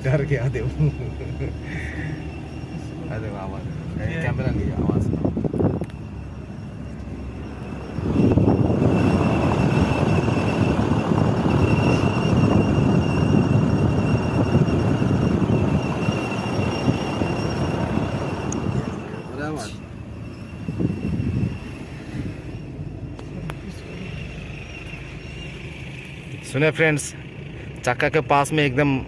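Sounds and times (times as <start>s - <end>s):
high-pitched wheel squeal: 0.0s - 29.0s
tyre and road rumble: 0.0s - 29.0s.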